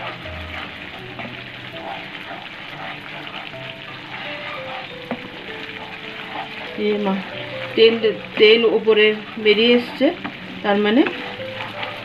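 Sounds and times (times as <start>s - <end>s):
paste sizzling in a frying pan: 0.0s - 12.0s
spatula stirring and scraping: 0.0s - 12.0s.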